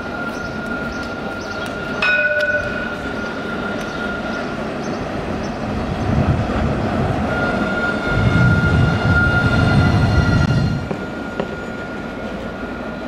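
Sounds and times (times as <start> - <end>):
tram rumbling on track: 0.0 - 13.0.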